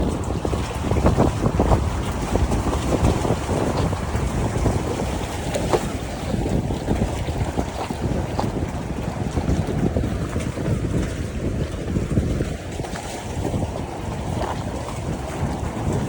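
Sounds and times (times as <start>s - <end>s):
waves lapping and splashing: 0.0s - 16.0s
wind buffeting microphone: 0.0s - 16.0s.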